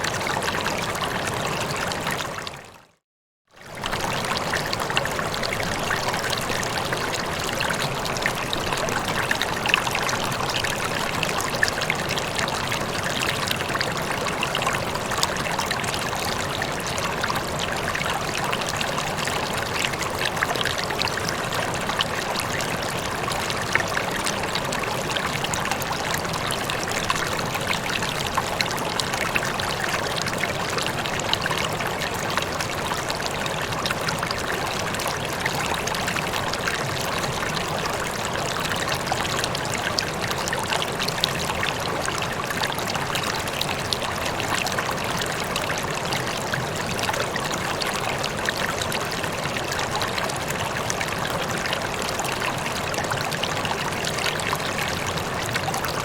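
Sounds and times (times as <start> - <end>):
water rippling and trickling: 0.0 - 56.0.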